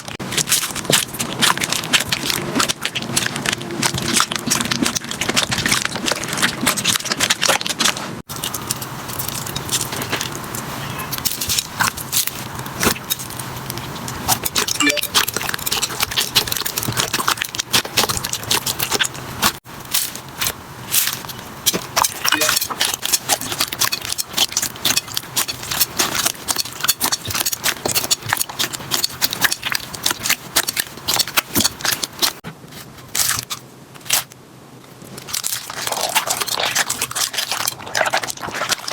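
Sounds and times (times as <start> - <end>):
slime crackling and popping: 0.0 - 10.4, 11.0 - 32.4, 35.1 - 38.9.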